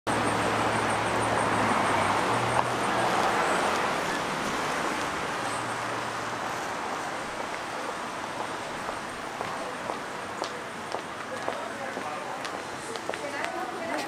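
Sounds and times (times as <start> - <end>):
passing cars: 0.1 - 14.0.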